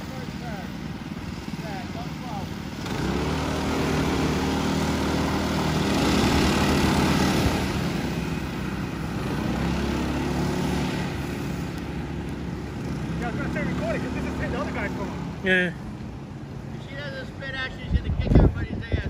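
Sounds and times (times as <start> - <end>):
go-kart engines racing: 0.0 - 19.0.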